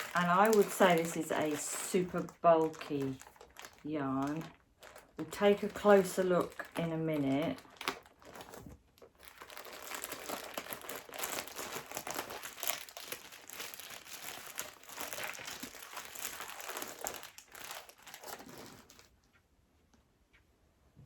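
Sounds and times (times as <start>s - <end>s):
packaging crinkling: 0.0s - 19.1s.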